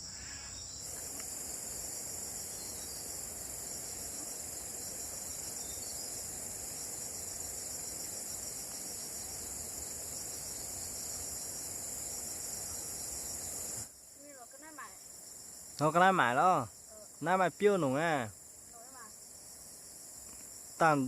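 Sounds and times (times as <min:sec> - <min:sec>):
insect chorus with pulsing trill: 0:00.0 - 0:21.0.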